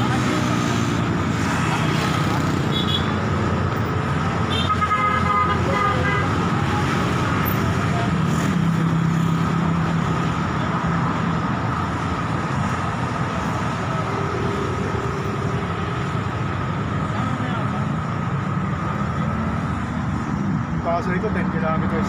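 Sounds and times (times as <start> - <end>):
cars and motorcycles passing: 0.0 - 22.0.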